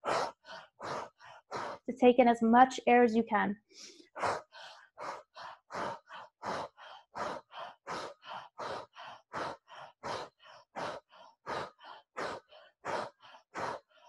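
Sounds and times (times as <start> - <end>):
woman breathing hard and fast: 0.0 - 1.9, 3.6 - 14.0.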